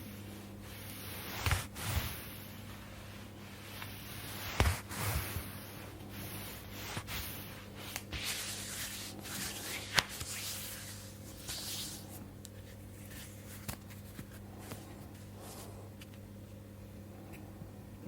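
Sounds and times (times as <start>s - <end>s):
hands rubbing skin and fabric: 0.4s - 16.2s.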